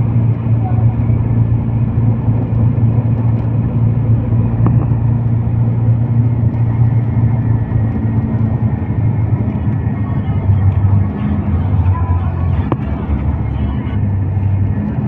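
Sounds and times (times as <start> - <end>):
vehicle rumbling on highway: 0.0 - 15.0.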